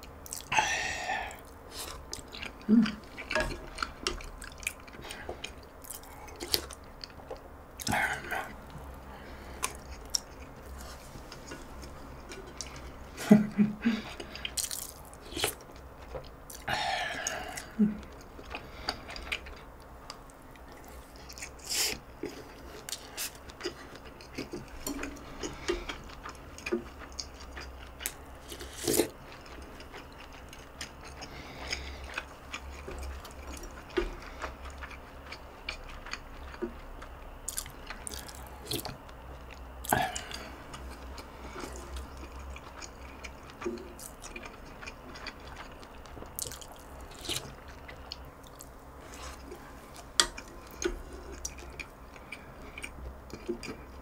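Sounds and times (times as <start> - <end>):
steady low hum: 0.0 - 54.0
person chewing: 0.1 - 54.0.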